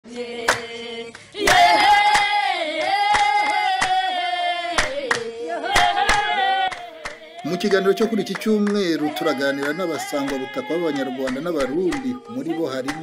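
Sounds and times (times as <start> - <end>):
women singing together: 0.1 - 13.0
hand claps: 0.5 - 4.0, 4.7 - 13.0.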